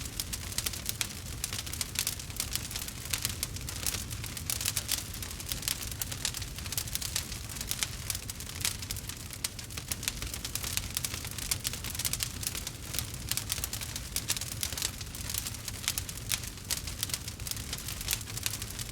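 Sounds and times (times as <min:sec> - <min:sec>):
campfire crackling: 0:00.0 - 0:18.9
low rumble of flame: 0:00.0 - 0:18.9.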